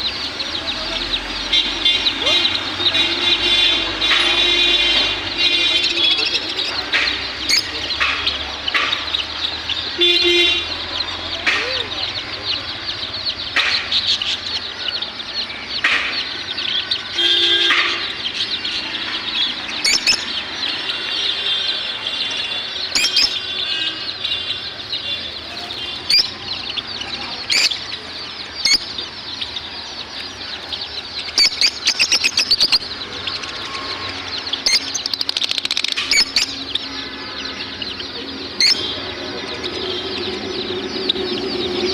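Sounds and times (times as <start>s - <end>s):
cage birds chattering and chirping: 0.0s - 41.9s
sharp bird calls: 0.0s - 41.9s.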